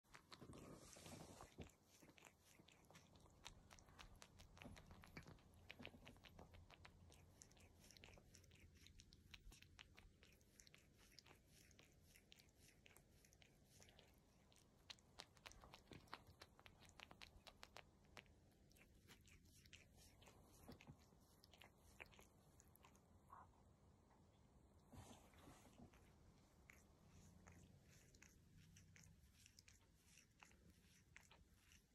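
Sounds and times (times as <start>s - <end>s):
cat licking its fur: 0.0s - 23.6s, 24.8s - 31.9s.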